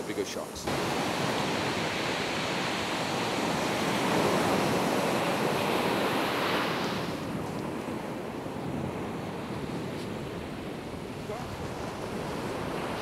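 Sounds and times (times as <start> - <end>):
ocean surf breaking: 0.0 - 13.0
wind blowing: 0.0 - 13.0.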